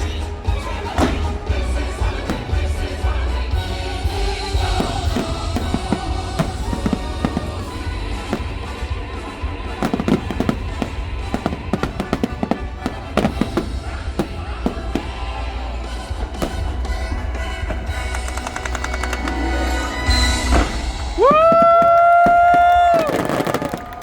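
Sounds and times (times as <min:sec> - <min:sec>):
loud show music: 0:00.0 - 0:23.5
fireworks bangs: 0:00.0 - 0:24.0.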